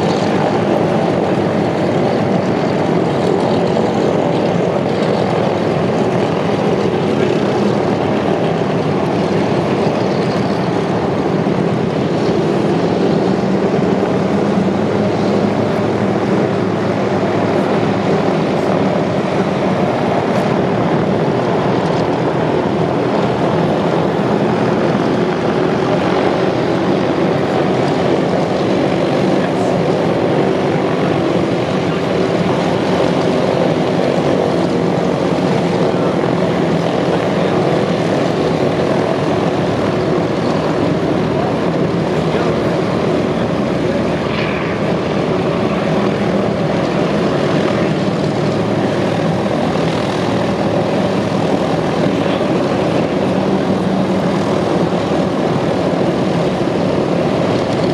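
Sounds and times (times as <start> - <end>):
propeller plane engines droning: 0.0 - 57.9.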